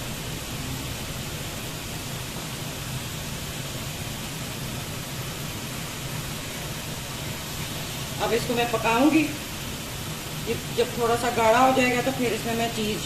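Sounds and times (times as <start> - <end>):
low steady hum: 0.0 - 13.0
sauce sizzling in a frying pan: 0.0 - 13.0.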